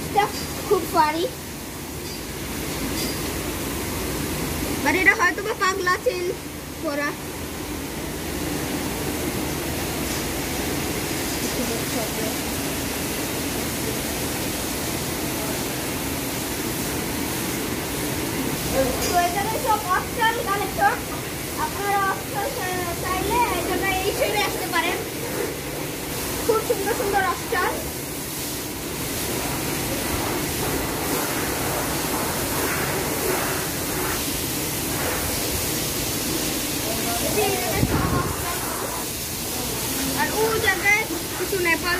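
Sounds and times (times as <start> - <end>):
ventilation fans rushing: 0.0 - 41.9.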